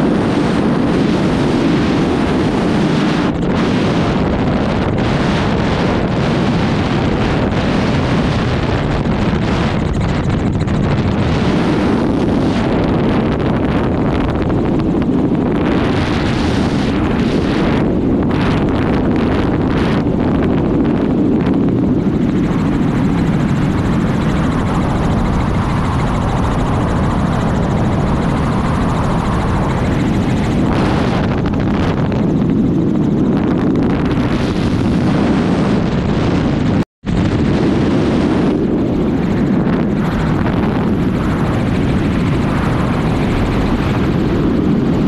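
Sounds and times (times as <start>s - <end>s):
helicopter rotor and engine: 0.0s - 45.0s.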